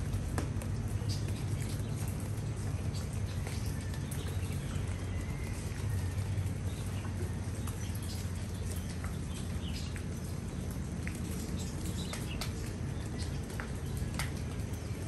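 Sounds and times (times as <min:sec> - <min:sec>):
drops ticking on leaves: 0:00.0 - 0:15.0
rain hissing on plants: 0:00.0 - 0:15.0.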